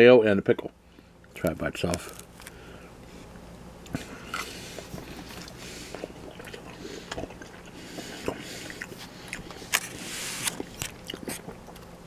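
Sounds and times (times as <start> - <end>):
person chewing: 1.9 - 12.0.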